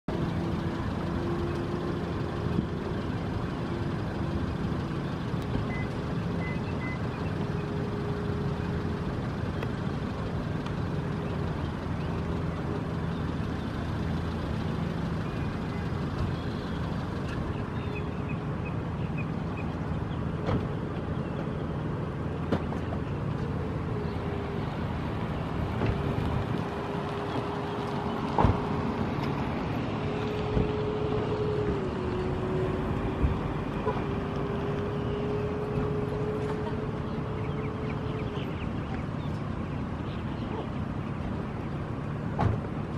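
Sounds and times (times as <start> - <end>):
engine low rumble: 0.0 - 42.9.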